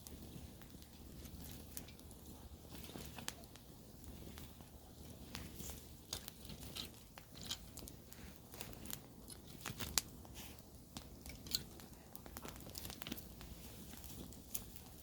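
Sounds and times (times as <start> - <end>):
campfire crackling and popping: 0.0 - 15.0
low rumble of flames: 0.0 - 15.0.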